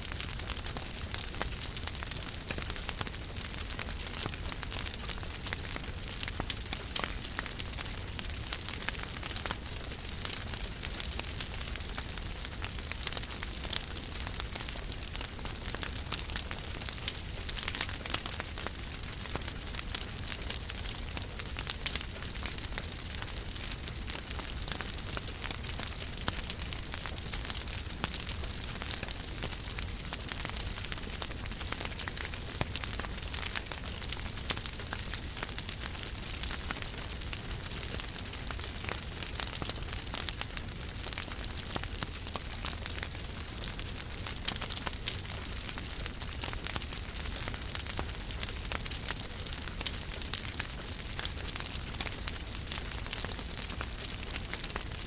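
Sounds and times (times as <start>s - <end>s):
fireplace fire crackling: 0.0s - 55.0s.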